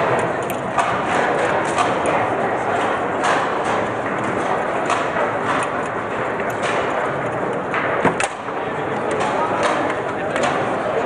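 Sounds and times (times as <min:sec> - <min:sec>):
foosball rods clacking: 0:00.0 - 0:11.0
hall background noise: 0:00.0 - 0:11.0.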